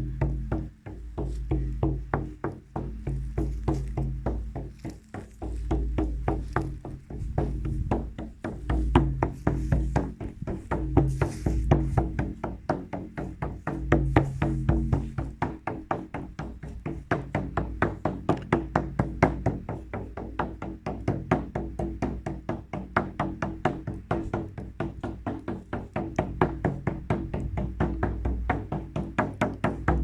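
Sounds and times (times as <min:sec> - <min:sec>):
fast percussive beat: 0:00.0 - 0:30.0.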